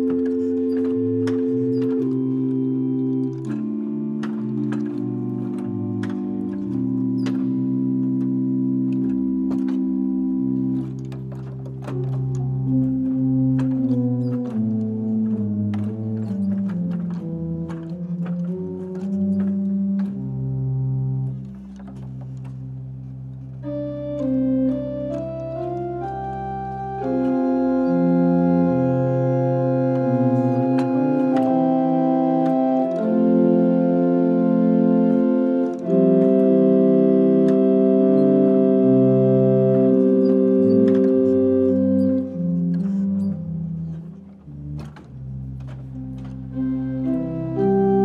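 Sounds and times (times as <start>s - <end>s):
pipe organ playing: 0.0s - 48.0s.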